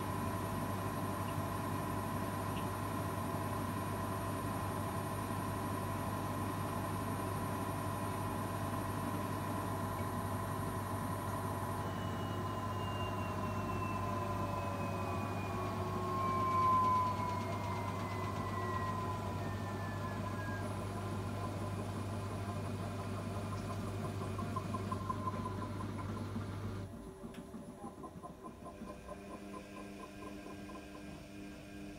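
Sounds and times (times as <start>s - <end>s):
washing machine motor whine: 0.0s - 31.9s.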